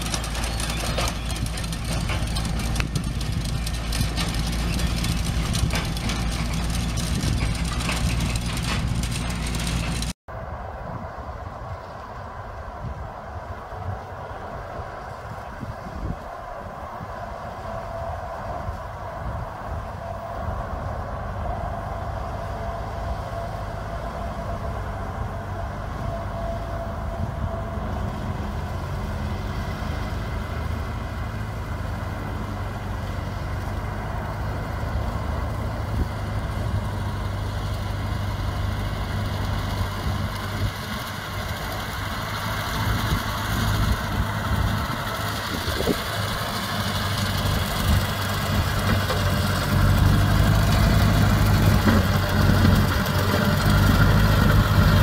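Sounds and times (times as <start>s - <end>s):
tractor engine running: 0.0s - 10.2s, 20.5s - 55.0s.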